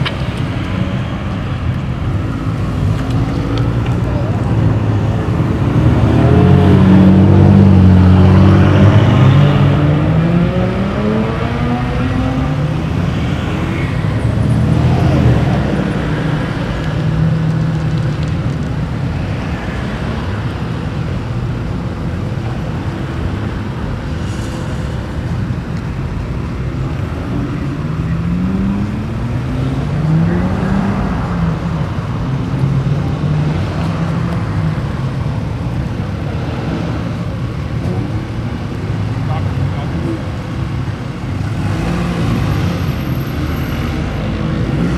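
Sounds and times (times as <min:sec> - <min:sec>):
car accelerating: 0:00.0 - 0:44.9
cars driving past: 0:00.0 - 0:44.9.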